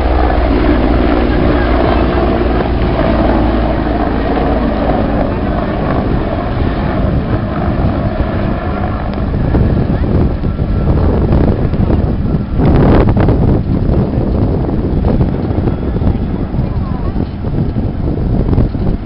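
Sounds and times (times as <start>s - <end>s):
helicopters passing low: 0.0s - 19.0s.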